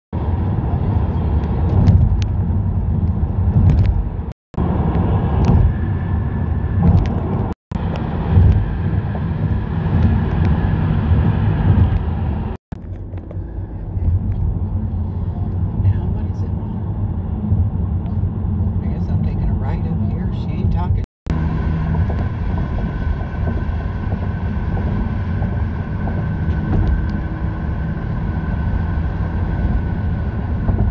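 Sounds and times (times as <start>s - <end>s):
tyre and road rumble: 0.2s - 30.9s.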